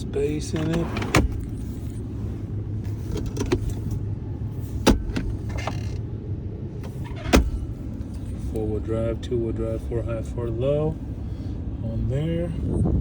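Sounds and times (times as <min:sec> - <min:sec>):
truck engine idling: 0:00.0 - 0:11.8.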